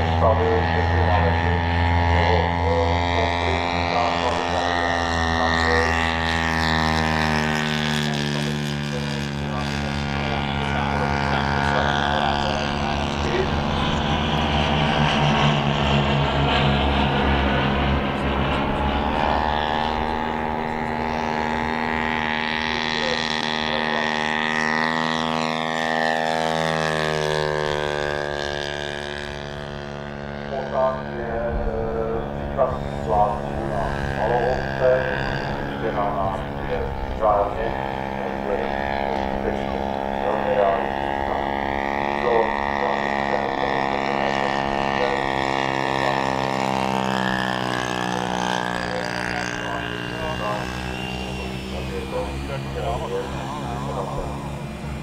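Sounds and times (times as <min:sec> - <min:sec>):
model plane engine droning: 0:00.0 - 0:55.0.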